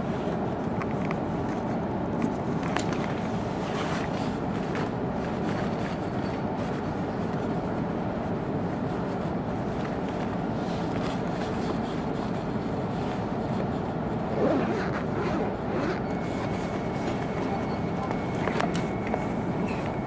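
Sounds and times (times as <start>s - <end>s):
train running rumble: 0.0s - 20.0s.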